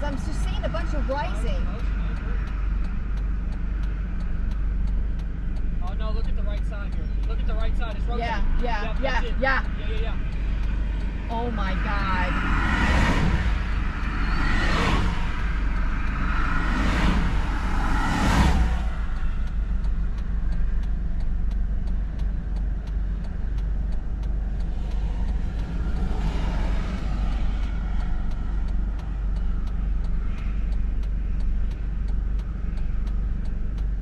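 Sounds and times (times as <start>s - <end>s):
engine and tyre rumble: 0.0s - 34.0s
faint ticks: 0.0s - 34.0s.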